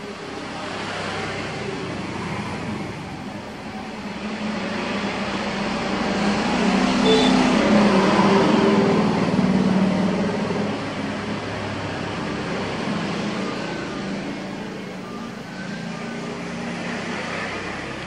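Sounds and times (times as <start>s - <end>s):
road traffic: 0.0s - 18.0s
vehicle engine passing: 0.4s - 18.0s.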